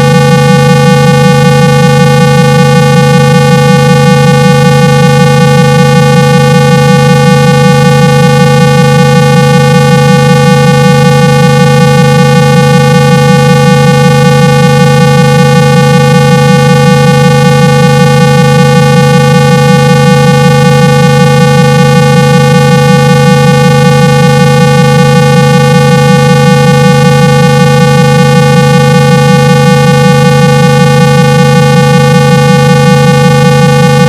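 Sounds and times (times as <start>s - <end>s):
buzzy low tone: 0.0s - 34.0s.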